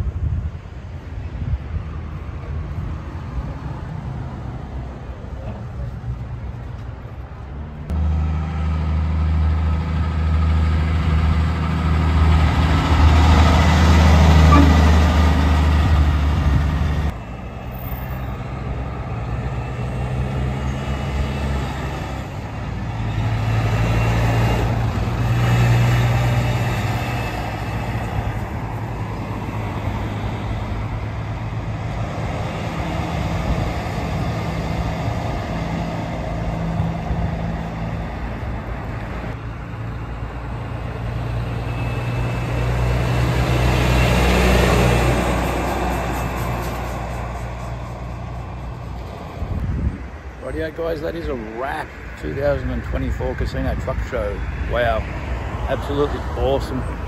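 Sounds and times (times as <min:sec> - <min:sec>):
diesel trucks driving past: 0:00.0 - 0:57.0.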